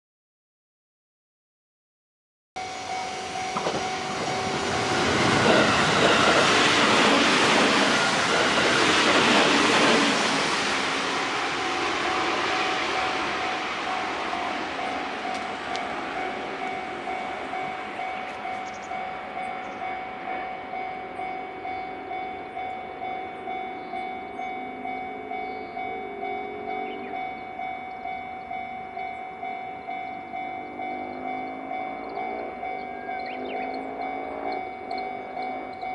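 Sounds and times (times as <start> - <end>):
electric train passing: 2.6 - 35.9
level-crossing warning bell: 2.6 - 35.9.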